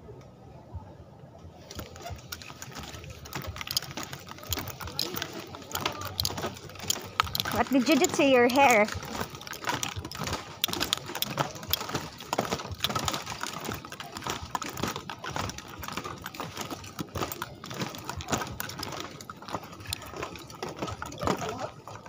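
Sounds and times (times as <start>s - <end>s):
footsteps on bamboo boardwalk: 1.5s - 22.0s.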